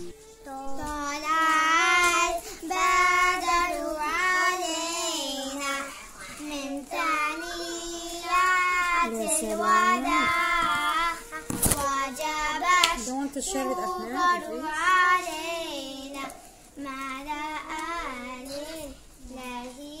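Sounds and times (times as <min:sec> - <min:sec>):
high voice singing slow melody: 0:00.0 - 0:20.0.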